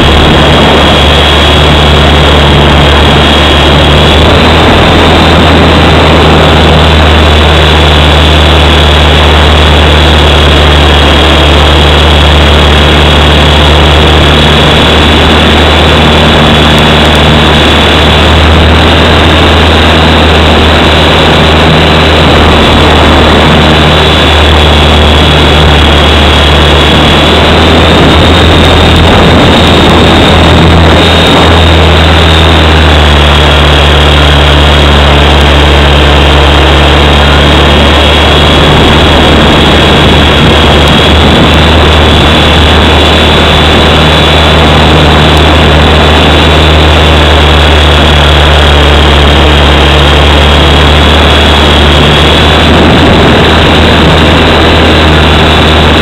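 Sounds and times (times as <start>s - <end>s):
high motor whine: 0.0s - 56.0s
low rotor hum: 0.0s - 56.0s.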